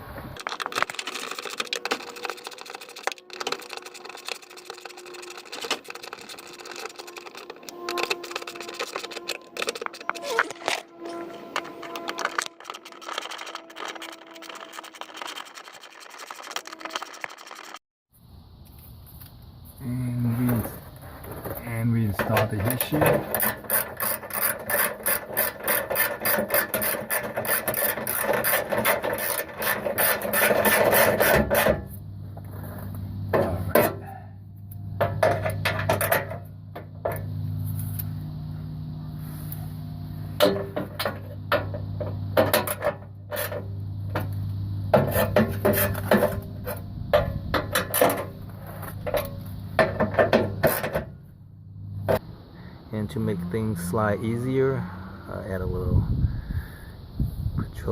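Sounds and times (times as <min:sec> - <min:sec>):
steady low hum: 0:00.0 - 0:16.8, 0:18.2 - 0:57.9.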